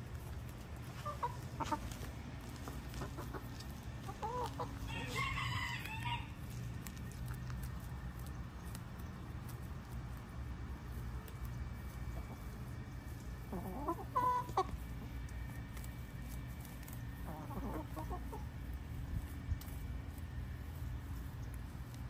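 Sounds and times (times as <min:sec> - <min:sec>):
chickens clucking: 0:00.0 - 0:22.0
low background hum: 0:00.0 - 0:22.0.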